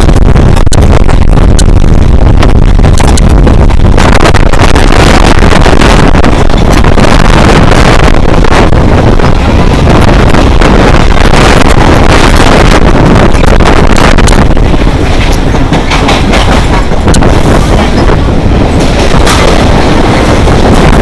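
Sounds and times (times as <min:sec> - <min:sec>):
train running at speed: 0:00.0 - 0:21.0
wind buffeting microphone: 0:00.0 - 0:21.0.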